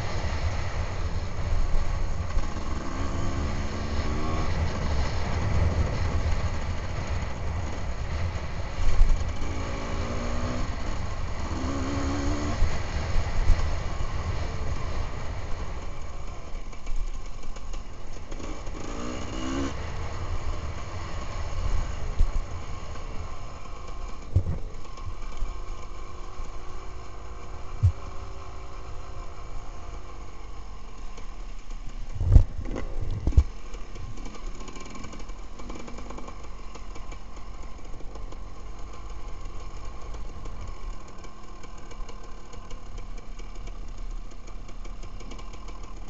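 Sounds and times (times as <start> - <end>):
motorcycle engine rumbling: 0.0 - 46.0.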